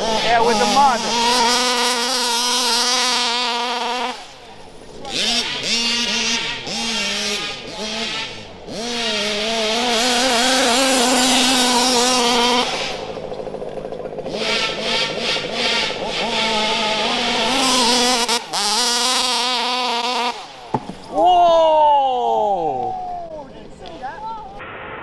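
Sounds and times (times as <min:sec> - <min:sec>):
rc car motor whine revving: 0:00.0 - 0:21.2.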